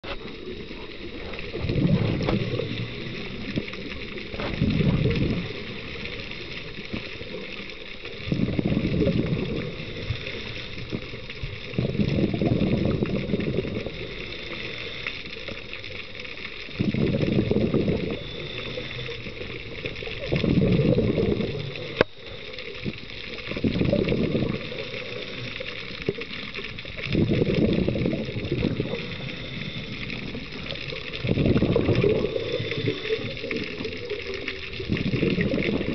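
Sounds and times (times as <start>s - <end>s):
bubbles gurgling underwater: 0.0s - 35.9s
steady high hiss: 0.2s - 35.9s.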